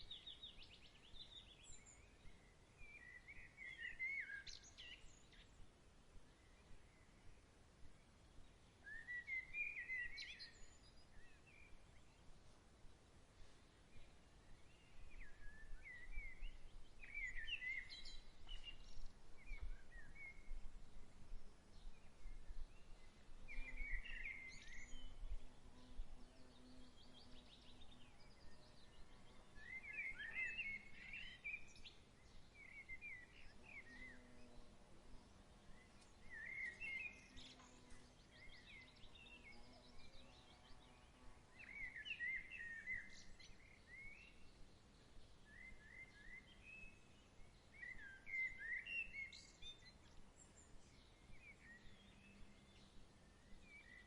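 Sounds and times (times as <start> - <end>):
low rumble of breeze: 0.0 - 54.0
songbirds chirping: 0.0 - 54.0.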